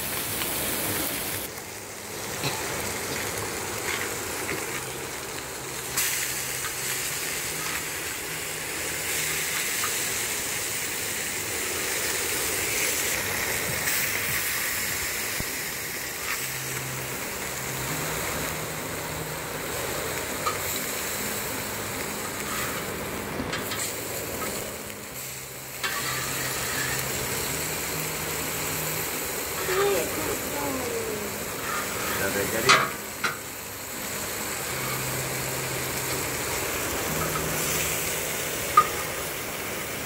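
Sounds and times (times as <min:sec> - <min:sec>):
fish and onions sizzling: 0:00.0 - 0:40.0.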